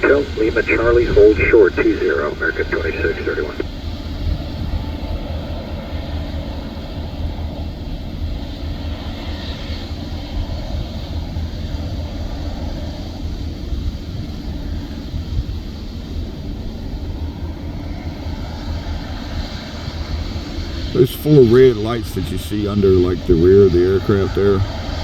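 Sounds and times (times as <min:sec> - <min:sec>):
airplane engine rumble: 0:00.0 - 0:25.0.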